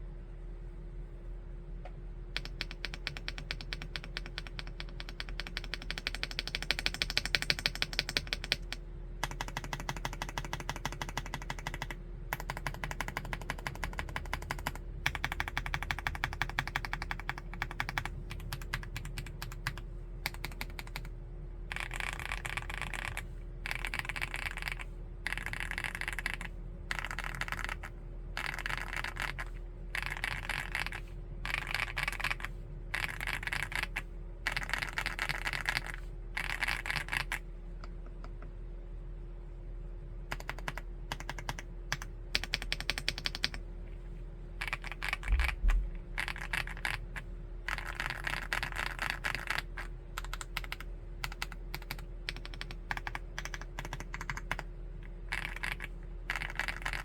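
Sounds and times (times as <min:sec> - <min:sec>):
fast typing on mechanical keyboard: 0:02.4 - 0:21.1, 0:21.7 - 0:37.4, 0:40.3 - 0:43.6, 0:44.6 - 0:57.0.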